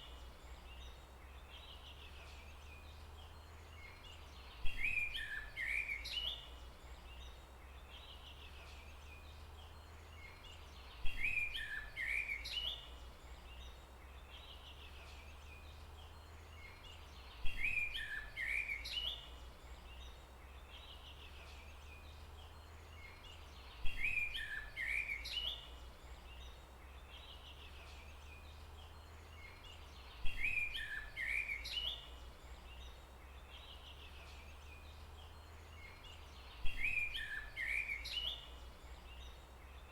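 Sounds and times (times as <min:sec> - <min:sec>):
songbird chirping phrase: 0:00.0 - 0:39.9.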